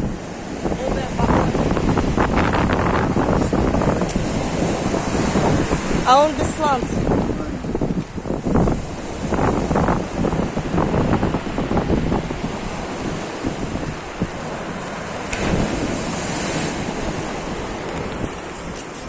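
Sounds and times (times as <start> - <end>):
waves washing onto shore: 0.0 - 19.0
wind buffeting microphone: 0.0 - 19.0.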